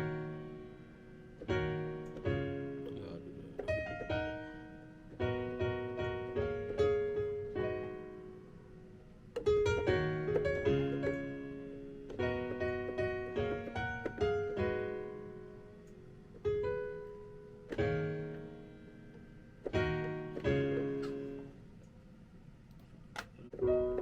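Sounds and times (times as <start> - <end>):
piano chords and melody: 0.0 - 21.8, 23.1 - 24.0.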